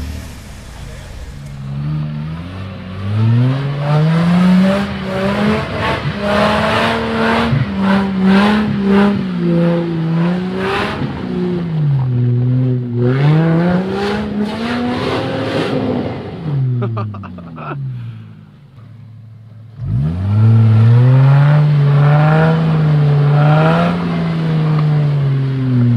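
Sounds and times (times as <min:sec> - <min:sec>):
truck engine revving hard: 0:00.0 - 0:16.9, 0:19.8 - 0:25.9.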